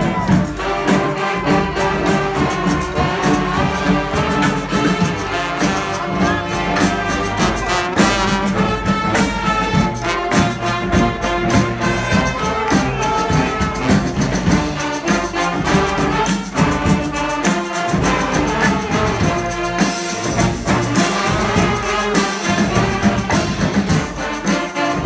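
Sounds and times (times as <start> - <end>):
brass band playing: 0.0 - 25.0
drum hits: 0.0 - 25.0.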